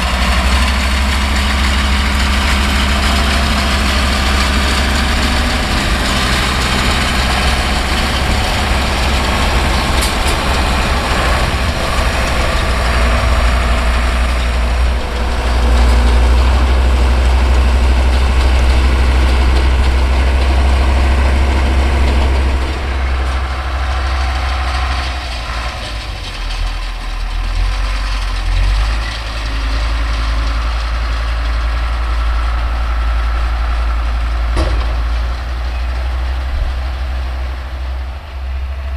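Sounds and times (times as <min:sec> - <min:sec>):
round baler running: 0:00.0 - 0:38.9
tractor diesel engine running: 0:00.0 - 0:38.9.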